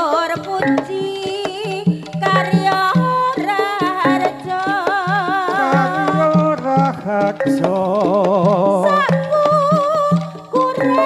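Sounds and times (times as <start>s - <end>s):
hand drum strokes: 0.0s - 11.0s.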